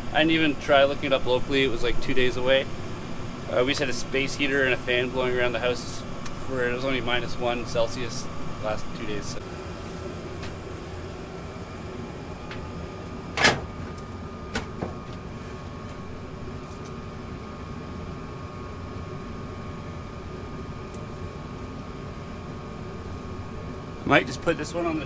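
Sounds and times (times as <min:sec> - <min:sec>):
gas furnace humming: 0:00.0 - 0:25.0.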